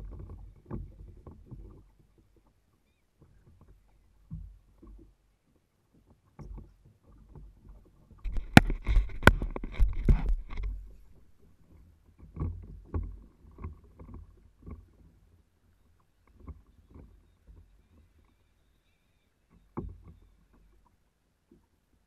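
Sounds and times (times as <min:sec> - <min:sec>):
knocks and clatter on kayak: 0:00.0 - 0:18.6, 0:19.4 - 0:21.8
water slapping hull: 0:00.0 - 0:18.8.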